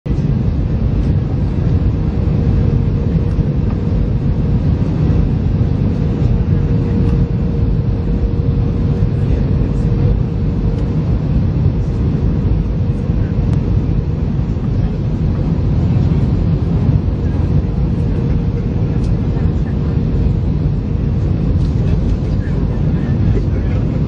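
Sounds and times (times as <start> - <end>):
faint jet engine whine: 0.1 - 24.0
jet airliners rumbling: 0.1 - 24.0.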